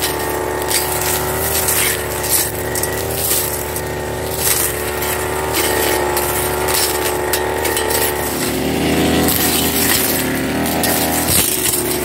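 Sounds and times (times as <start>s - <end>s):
brush cutter engine running: 0.0s - 12.0s.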